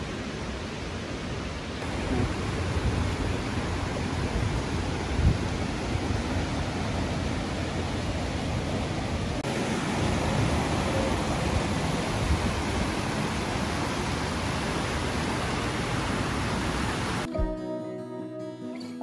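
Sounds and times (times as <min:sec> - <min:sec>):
river pouring over rapids: 0:00.0 - 0:17.3
waterfall: 0:00.0 - 0:17.3.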